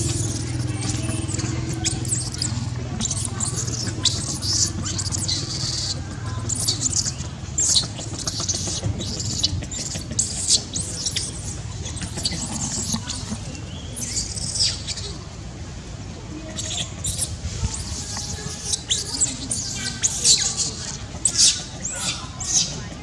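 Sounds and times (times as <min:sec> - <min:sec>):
baby monkey squealing: 0:00.0 - 0:15.2, 0:16.4 - 0:22.9
steady low hum: 0:00.0 - 0:23.0.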